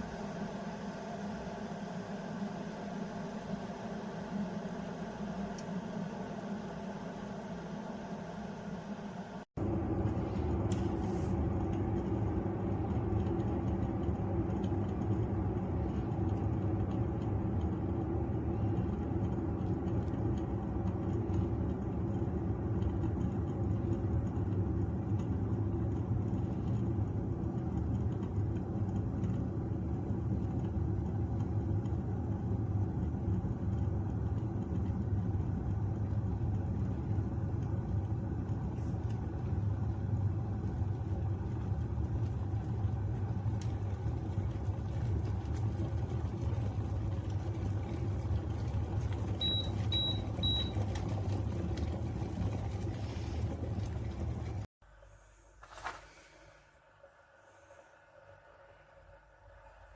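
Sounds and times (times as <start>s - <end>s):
electric kettle heating water: 0.0s - 54.7s.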